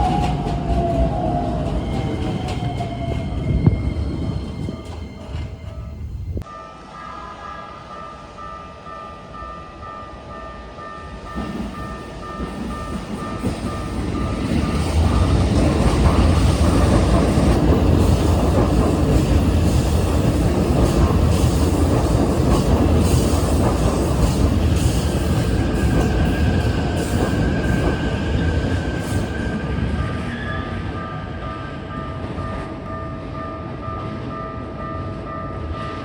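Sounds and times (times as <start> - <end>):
train rumble: 0.0 - 6.5, 11.0 - 33.8.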